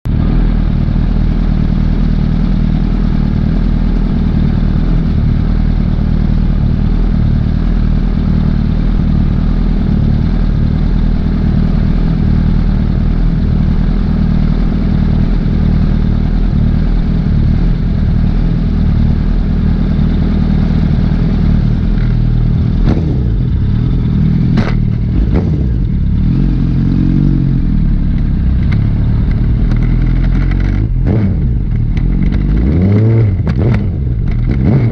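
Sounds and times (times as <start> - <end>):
motorcycle engine running: 0.0 - 34.9
steady rushing noise: 0.1 - 34.9.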